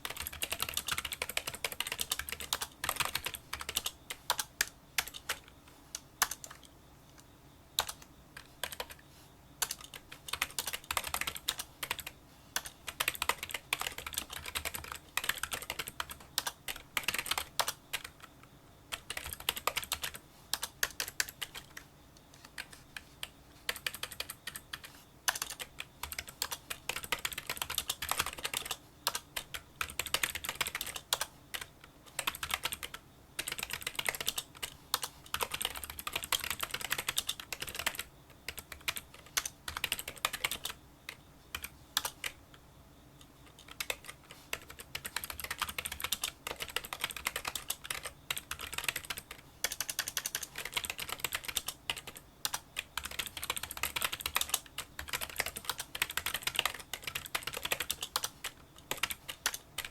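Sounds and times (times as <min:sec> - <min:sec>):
fast typing on keyboard: 0:00.0 - 0:05.5, 0:06.2 - 0:06.7, 0:07.8 - 0:09.0, 0:09.6 - 0:42.4, 0:43.4 - 0:59.9.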